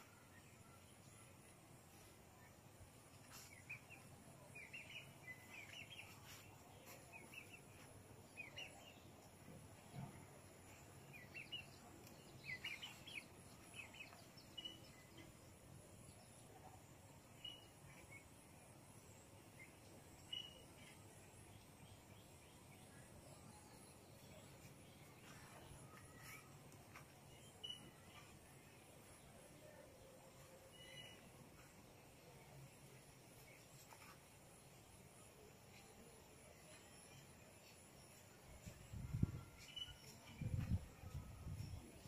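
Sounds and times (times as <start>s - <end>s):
faint bird chirps: 0.0s - 42.0s.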